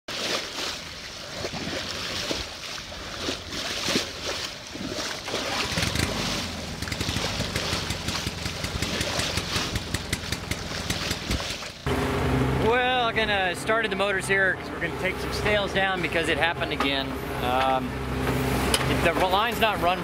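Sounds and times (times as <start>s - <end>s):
water rushing along hull: 0.1s - 20.0s.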